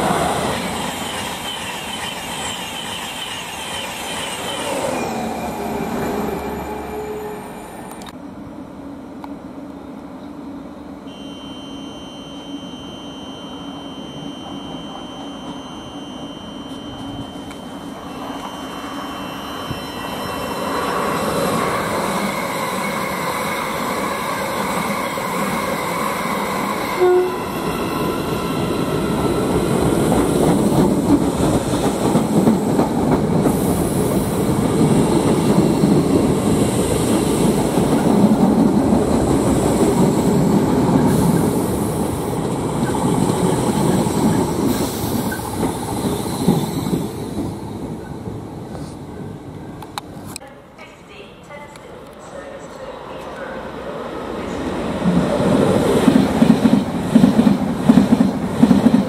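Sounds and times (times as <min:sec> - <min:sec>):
train whine approaching: 0:00.0 - 0:50.1, 0:50.7 - 0:59.0
train wheel and rail noise: 0:00.0 - 0:59.0.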